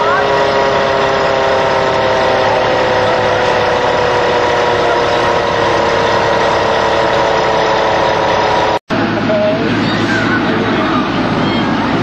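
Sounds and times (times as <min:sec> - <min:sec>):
diesel engine running loudly: 0:00.0 - 0:12.0.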